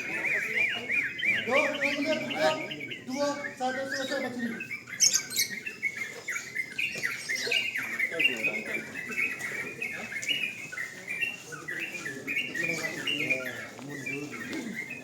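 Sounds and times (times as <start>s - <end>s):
birds singing whistled notes: 0.0s - 15.0s.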